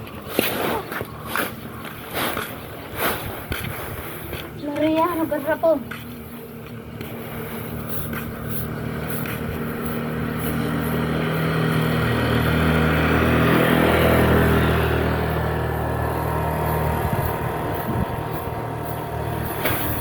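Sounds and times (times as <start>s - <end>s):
motor engine running: 0.0s - 20.0s.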